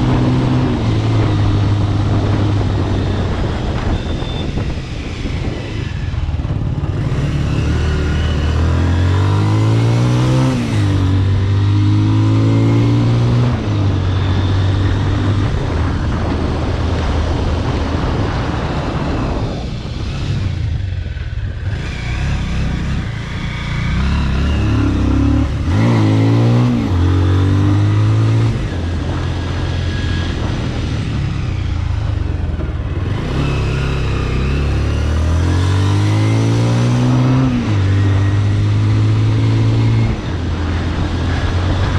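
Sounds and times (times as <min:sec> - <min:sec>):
motorcycle engine accelerating: 0:00.0 - 0:41.9
wind noise on microphone: 0:00.0 - 0:41.9.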